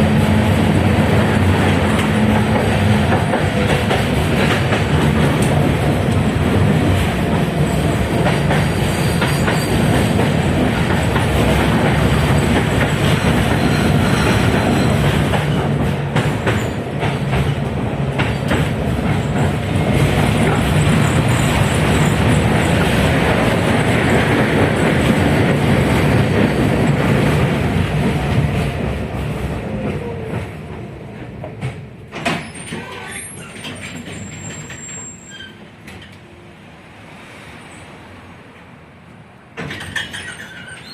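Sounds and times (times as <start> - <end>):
tram wheels rumbling on rail: 0.0 - 40.9.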